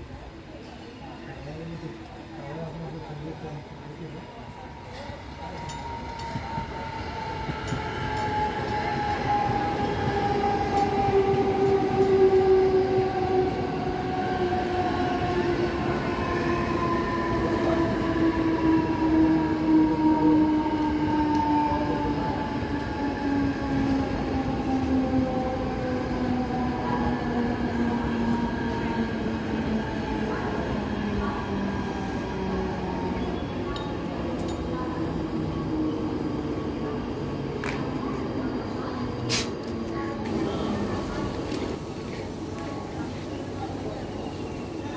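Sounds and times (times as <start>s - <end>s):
train wheels rumbling on rails: 4.4s - 44.9s.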